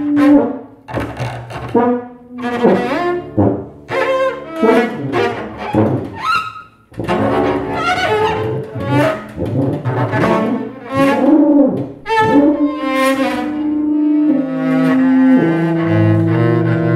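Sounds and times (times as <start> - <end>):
bowed double bass: 0.0 - 16.9.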